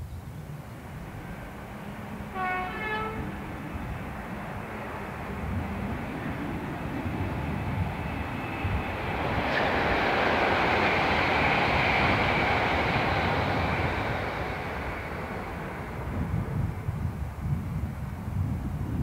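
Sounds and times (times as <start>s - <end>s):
passenger train passing: 0.0s - 19.0s.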